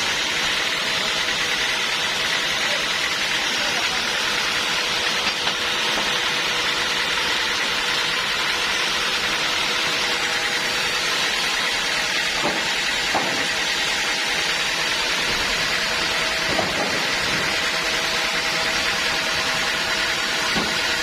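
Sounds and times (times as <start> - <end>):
sawmill machinery hissing: 0.0 - 21.0.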